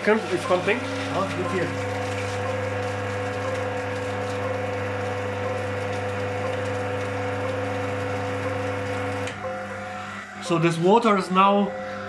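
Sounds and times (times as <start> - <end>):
vacuum pump running: 0.0 - 12.0
water pump motor humming: 0.0 - 12.0.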